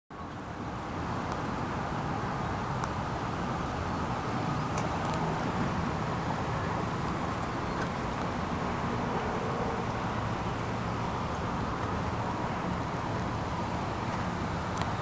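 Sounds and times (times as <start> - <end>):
road traffic noise: 0.1 - 15.0.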